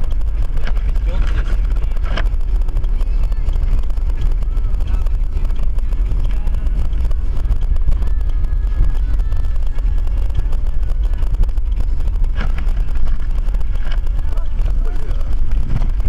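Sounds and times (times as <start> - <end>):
car engine rumble: 0.0 - 16.0
road noise: 0.0 - 16.0.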